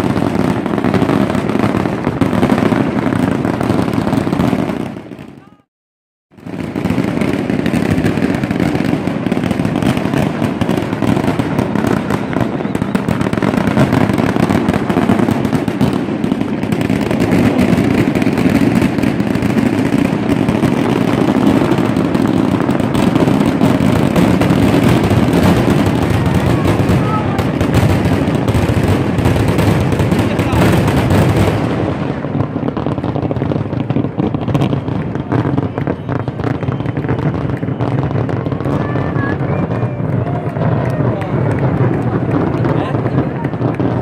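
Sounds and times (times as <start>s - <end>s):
fireworks bangs and crackling: 0.0s - 5.7s, 6.3s - 44.0s.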